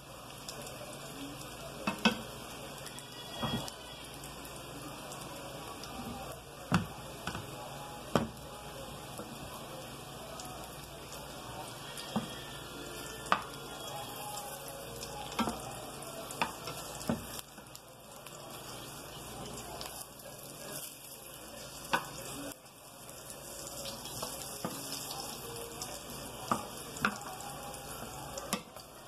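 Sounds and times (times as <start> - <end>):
plantain sizzling in oil: 0.0 - 29.0
spatula turning food: 1.5 - 29.0.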